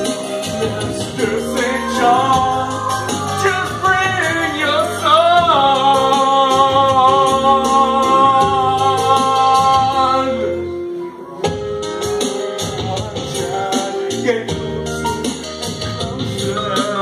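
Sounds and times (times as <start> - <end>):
person singing long notes: 0.0 - 14.6
instrumental backing: 0.0 - 17.0.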